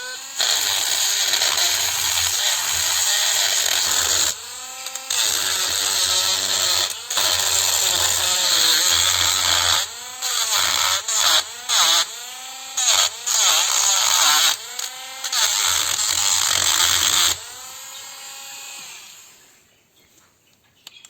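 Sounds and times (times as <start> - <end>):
power tool motor running: 0.0 - 19.4.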